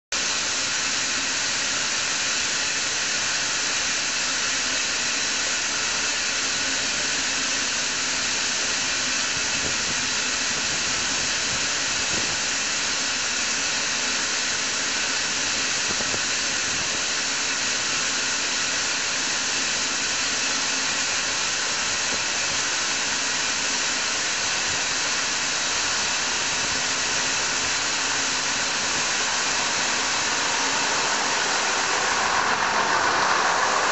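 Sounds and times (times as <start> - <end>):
fan rushing hiss: 0.1 - 33.9.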